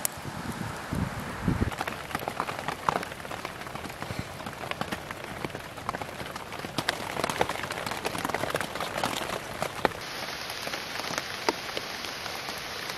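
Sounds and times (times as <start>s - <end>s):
sharp ticks of raindrops: 0.0s - 12.9s
steady rain falling: 0.0s - 12.9s.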